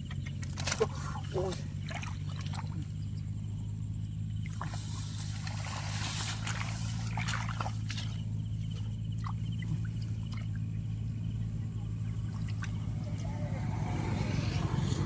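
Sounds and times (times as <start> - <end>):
water and mud splashing: 0.0 - 3.5, 4.3 - 15.0
small engine humming: 0.0 - 15.0.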